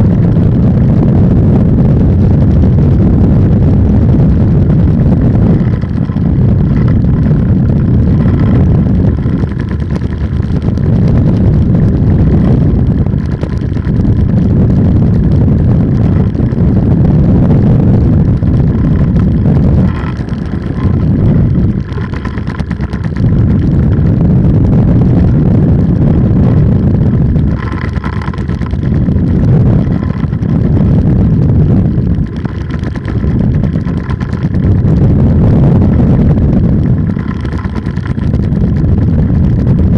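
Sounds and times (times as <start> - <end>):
two-stroke engine rumbling: 0.0 - 39.9.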